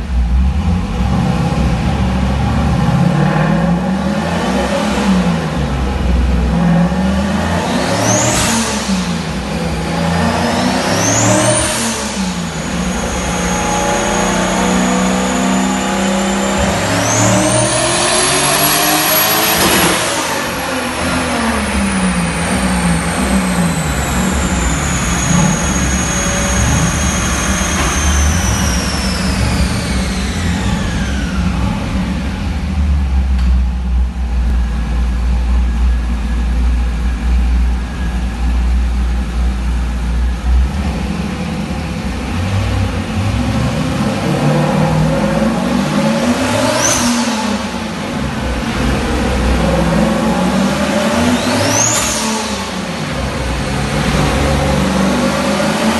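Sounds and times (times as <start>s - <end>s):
engine low rumble: 0.0s - 46.3s, 47.0s - 55.5s
engine whine: 0.0s - 55.9s.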